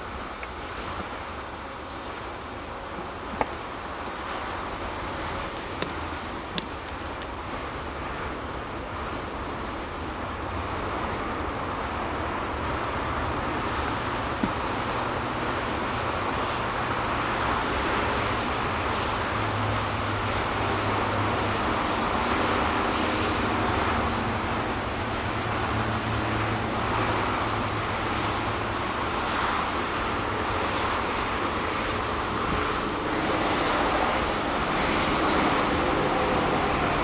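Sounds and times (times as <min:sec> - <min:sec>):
distant road traffic: 0:00.0 - 0:37.0
faint engine hum: 0:00.0 - 0:37.0.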